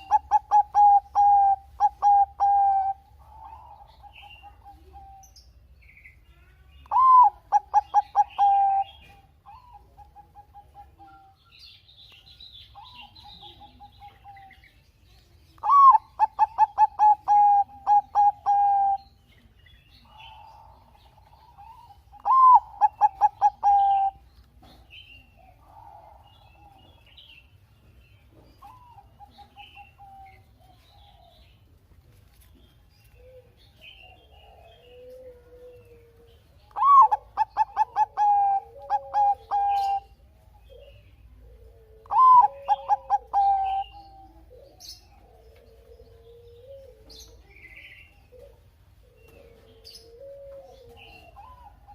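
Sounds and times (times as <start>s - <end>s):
soft dove coos: 0.0s - 5.4s, 6.9s - 11.5s, 12.8s - 14.8s, 15.5s - 27.2s, 28.3s - 51.9s
dove singing: 0.0s - 51.9s.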